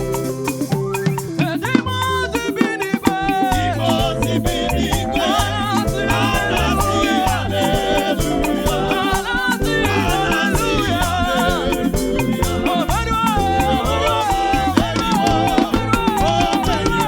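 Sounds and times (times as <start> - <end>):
gospel band playing: 0.0 - 17.0.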